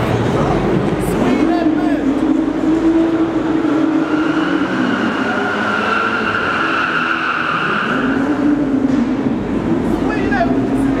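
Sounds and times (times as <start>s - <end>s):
car engine at high revs: 0.4s - 11.0s.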